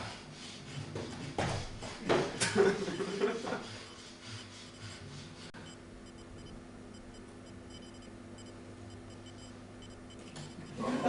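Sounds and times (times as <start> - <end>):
steady low hum: 0.4 - 11.0.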